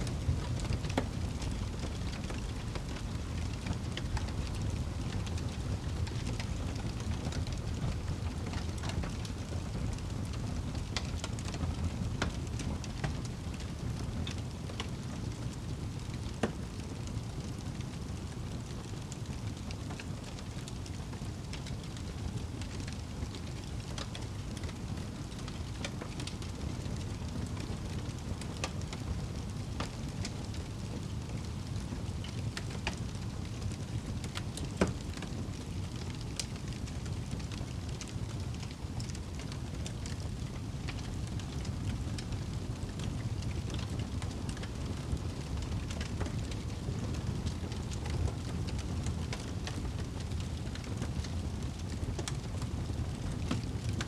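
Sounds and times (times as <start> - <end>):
fire flames rumbling: 0.0 - 54.0
fire popping: 0.0 - 54.0.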